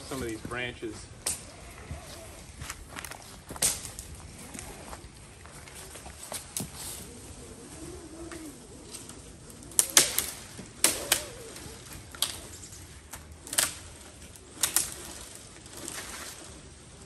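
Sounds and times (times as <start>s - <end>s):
twigs snapping and crackling: 0.1s - 17.0s.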